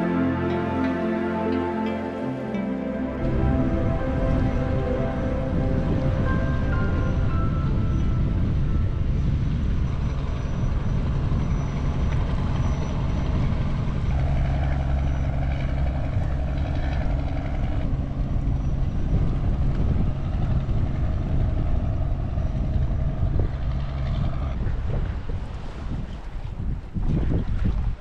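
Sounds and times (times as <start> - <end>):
boat engine droning: 0.0 - 26.4.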